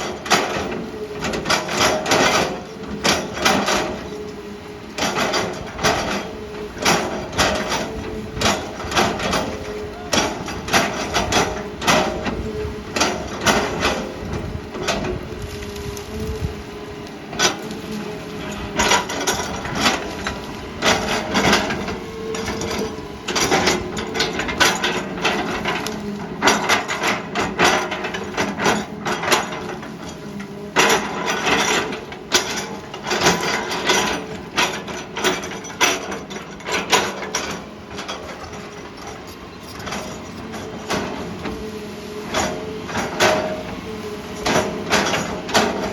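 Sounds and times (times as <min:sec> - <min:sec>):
excavator engine: 0:00.0 - 0:45.9.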